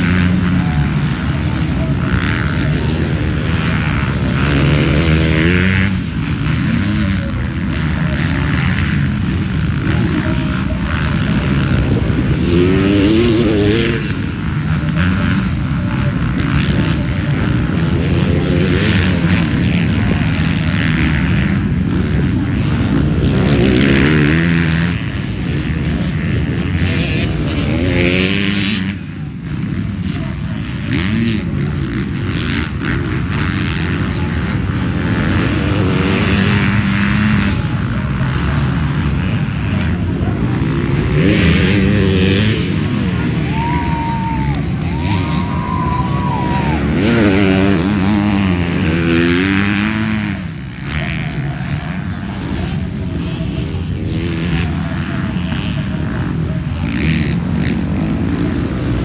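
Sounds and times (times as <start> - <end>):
motocross bikes revving: 0.0 - 59.0.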